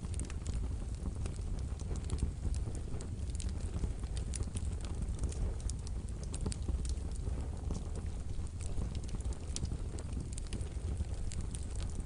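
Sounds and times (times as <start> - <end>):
logs crackling and popping: 0.0 - 12.0
low rumble of flames: 0.0 - 12.0.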